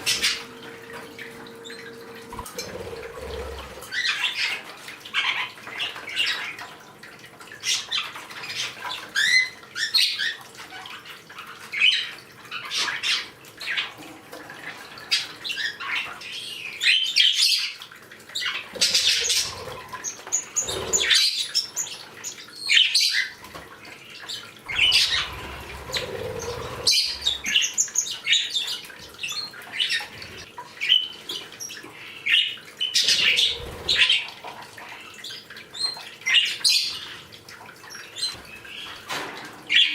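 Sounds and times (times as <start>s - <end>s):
birds chirping and squawking: 0.0s - 6.7s, 7.5s - 37.3s, 37.9s - 39.9s.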